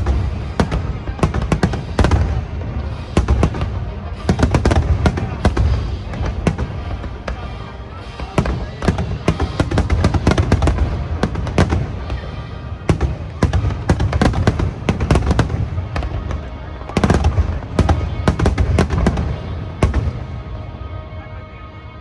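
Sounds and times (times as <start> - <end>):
fireworks bursting: 0.0 - 20.7
music: 0.0 - 22.0.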